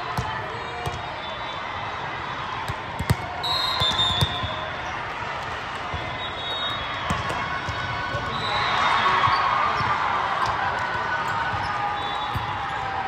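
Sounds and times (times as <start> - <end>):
hubbub of voices: 0.0 - 13.0.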